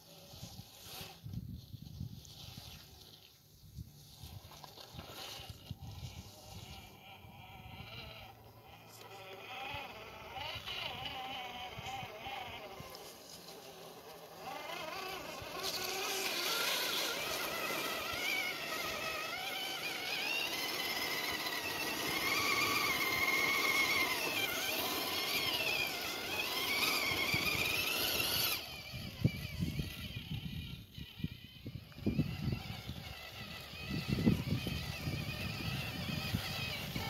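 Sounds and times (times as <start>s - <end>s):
toy car electric motor whining: 0.0s - 37.0s.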